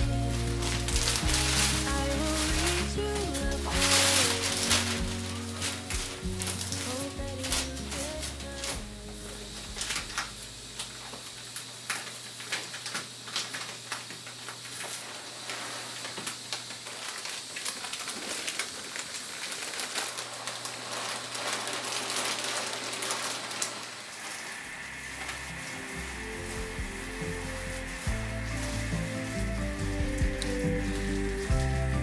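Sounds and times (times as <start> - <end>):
dry grains rustling: 0.0 - 32.0
plastic bag crinkling: 0.0 - 32.0.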